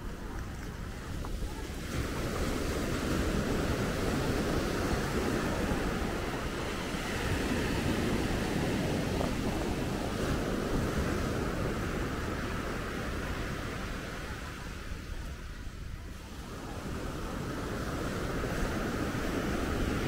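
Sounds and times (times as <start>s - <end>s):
sea waves rushing: 0.0s - 20.0s
wind buffeting microphone: 0.0s - 20.0s.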